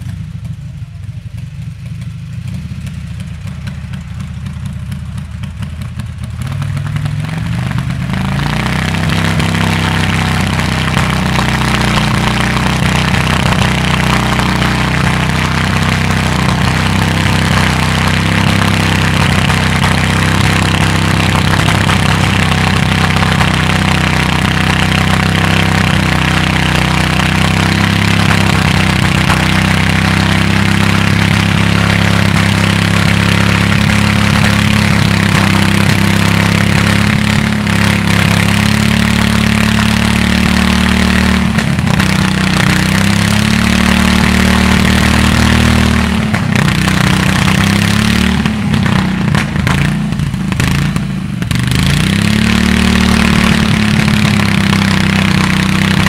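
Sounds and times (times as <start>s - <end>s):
engine driving chainsaw through wood: 4.6s - 56.0s.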